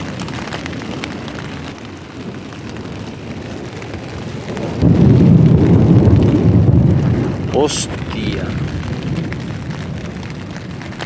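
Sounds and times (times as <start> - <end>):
heavy rain on a tent: 0.0 - 11.0
thunder rumbling: 0.0 - 11.0.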